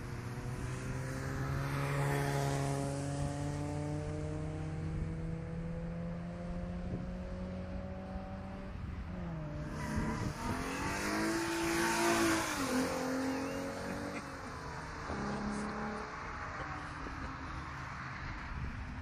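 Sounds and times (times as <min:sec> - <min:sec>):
race car engine passing by: 0:00.0 - 0:19.0.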